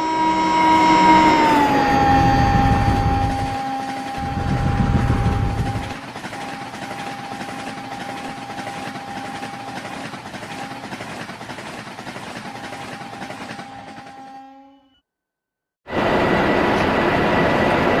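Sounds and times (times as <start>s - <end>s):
train rushing rumble: 0.0s - 14.4s, 15.9s - 18.0s.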